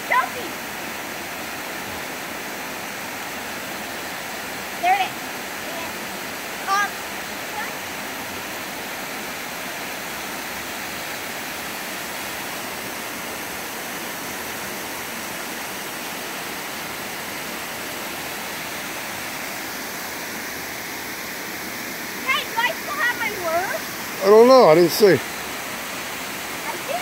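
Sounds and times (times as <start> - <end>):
water rushing over weir: 0.0 - 27.0.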